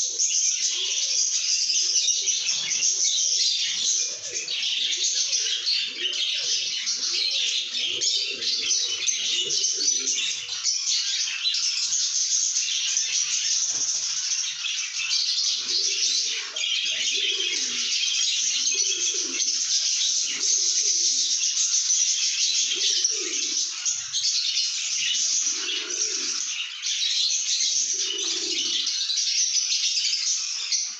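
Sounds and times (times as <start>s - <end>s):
lovebirds chattering: 0.0s - 30.9s
lower-pitched bird chatter: 0.0s - 30.9s.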